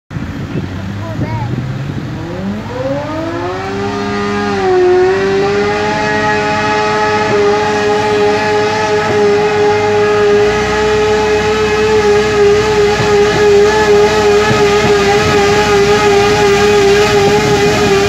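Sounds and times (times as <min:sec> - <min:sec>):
lawnmower motor whining: 0:01.8 - 0:18.0.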